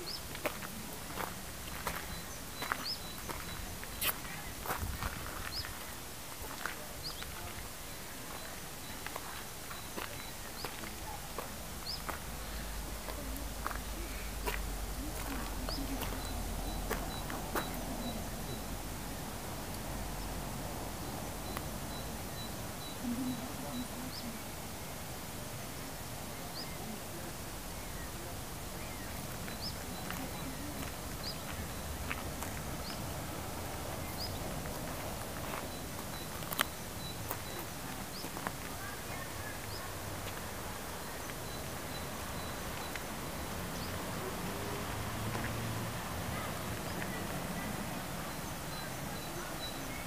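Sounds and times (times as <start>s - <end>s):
background hiss: 0.0s - 50.0s.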